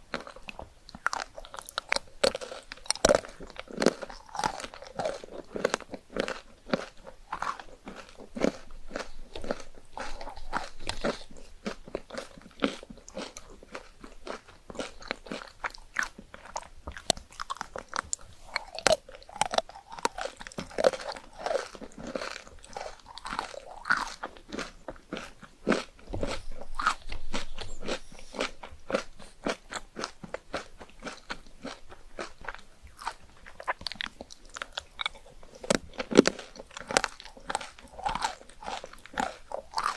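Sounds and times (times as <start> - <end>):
crunching and chewing ice cream: 0.0 - 39.9.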